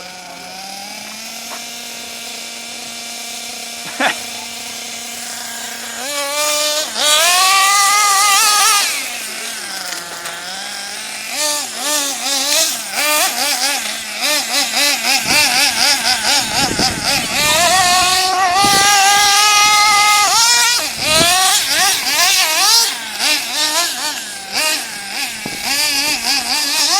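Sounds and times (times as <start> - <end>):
small two-stroke engine revving: 0.0 - 26.9.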